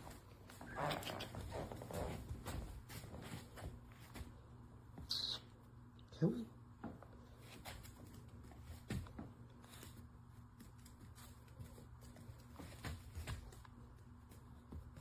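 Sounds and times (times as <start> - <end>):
dog paws tapping on foam stairs: 0.0 - 5.1, 6.8 - 15.0
faint low hum: 0.0 - 15.0.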